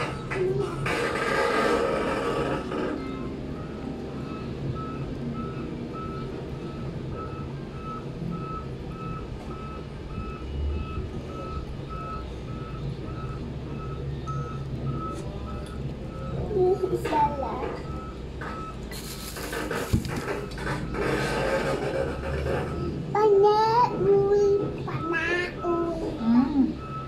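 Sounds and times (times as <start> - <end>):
reversing alarm beeping: 0.0 - 23.0, 23.9 - 27.0
low steady rumble: 0.0 - 27.0.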